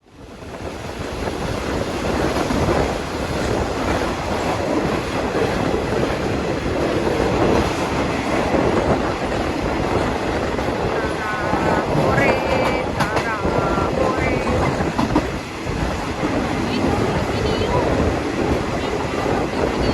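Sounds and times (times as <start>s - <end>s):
train wheels rolling on rails: 0.1s - 19.9s.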